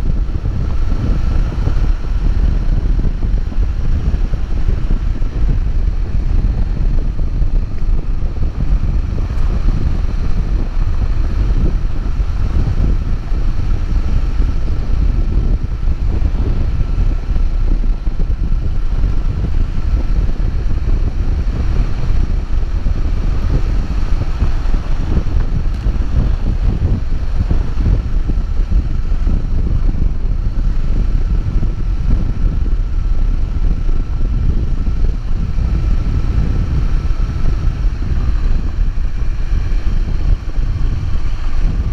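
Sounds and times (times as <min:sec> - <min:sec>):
faint steady whine: 0:00.0 - 0:41.9
vehicle running: 0:00.0 - 0:41.9
wind rumble on microphone: 0:00.0 - 0:41.9.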